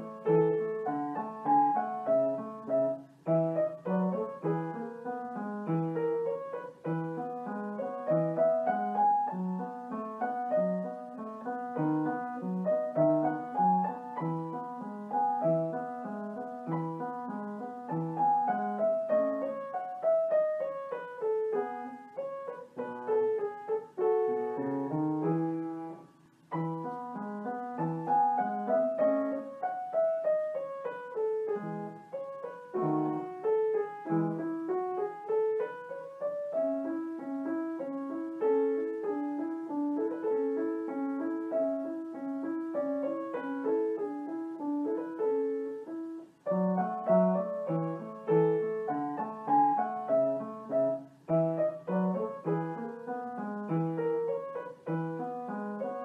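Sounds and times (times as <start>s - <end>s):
piano melody: 0.0s - 56.0s.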